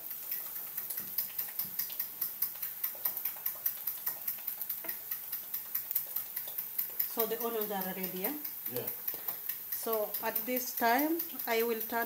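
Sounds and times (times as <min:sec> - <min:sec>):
spatula scraping frying pan: 0:00.0 - 0:12.0.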